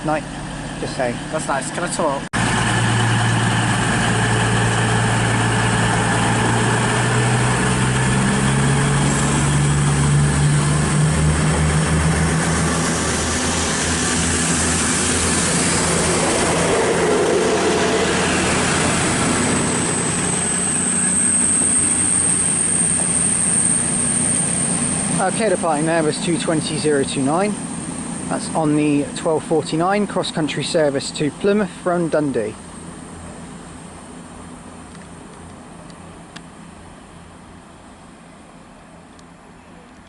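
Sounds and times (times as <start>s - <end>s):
thin high whine: 0.0s - 35.8s
diesel train engines accelerating: 0.0s - 40.0s.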